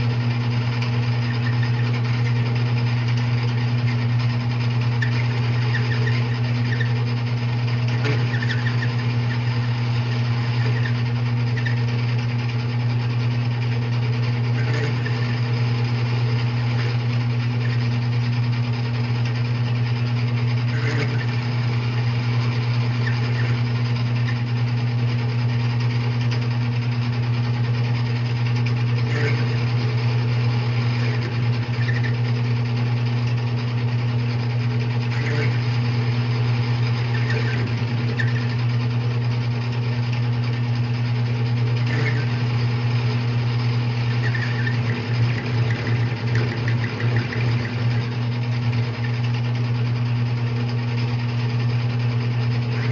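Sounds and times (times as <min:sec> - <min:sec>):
metal lathe humming: 0:00.0 - 0:52.9.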